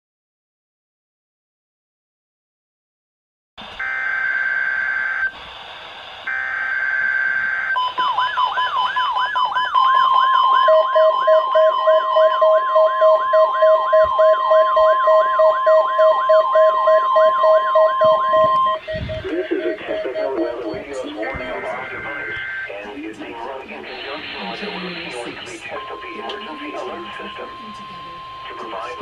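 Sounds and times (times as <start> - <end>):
warbling siren tone: 3.6 - 22.9, 24.1 - 29.0
steady alarm tone: 3.6 - 29.0
data tone bursts: 3.7 - 5.5, 6.2 - 29.0
rapid beeping: 3.8 - 29.0.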